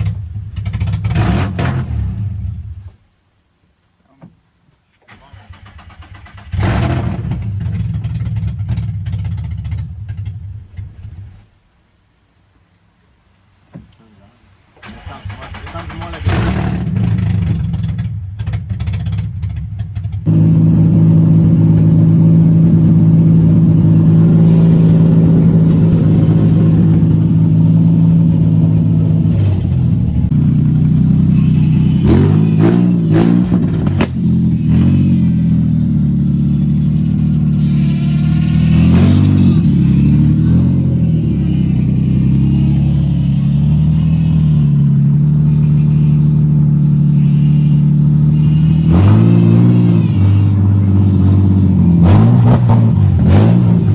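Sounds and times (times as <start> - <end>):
engine revving: 0.0 - 2.9, 5.1 - 11.4, 14.8 - 53.9
car engine idling: 0.0 - 3.0, 5.1 - 11.8, 14.0 - 53.9.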